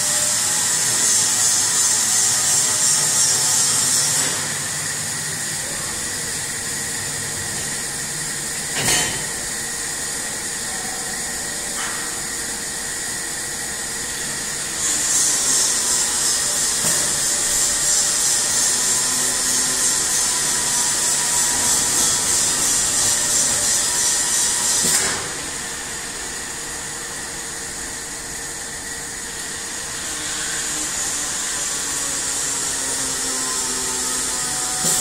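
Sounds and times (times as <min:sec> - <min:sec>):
machine hissing: 0:00.0 - 0:35.0.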